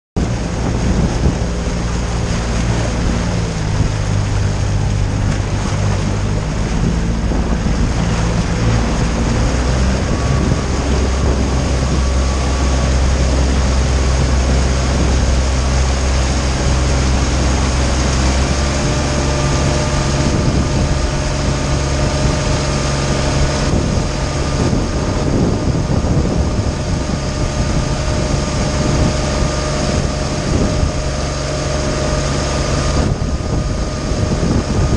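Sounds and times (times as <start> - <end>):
outboard motor running: 0.2 - 34.9
wake and spray rushing: 0.2 - 34.9
wind on microphone: 0.2 - 34.9.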